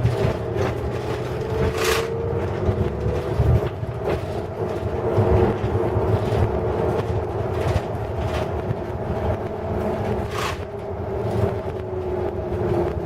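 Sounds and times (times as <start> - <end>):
bus rumble inside cabin: 0.0 - 13.0.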